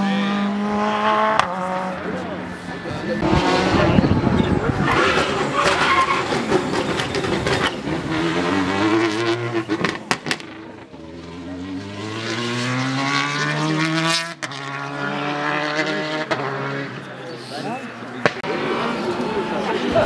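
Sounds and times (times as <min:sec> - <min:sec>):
rally car accelerating: 0:00.0 - 0:20.0.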